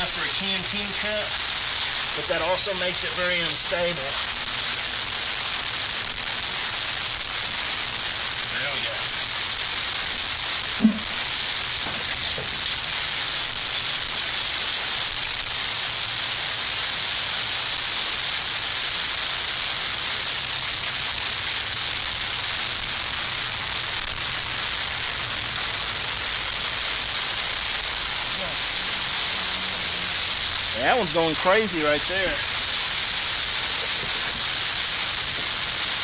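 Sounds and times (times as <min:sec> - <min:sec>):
stove burning with hiss: 0:00.0 - 0:36.0.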